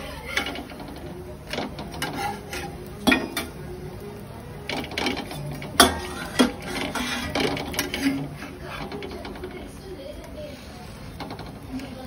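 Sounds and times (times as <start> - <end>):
metal spatula scraping iron griddle: 0.0 - 3.6, 4.6 - 12.0.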